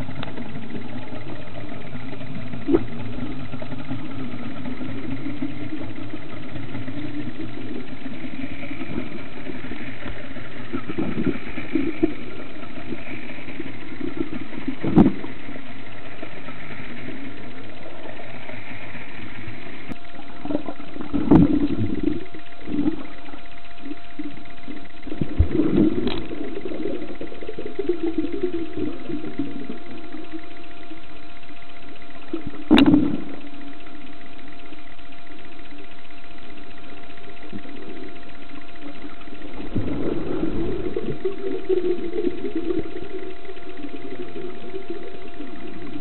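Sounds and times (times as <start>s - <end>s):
boat engine drone underwater: 0.0s - 46.0s.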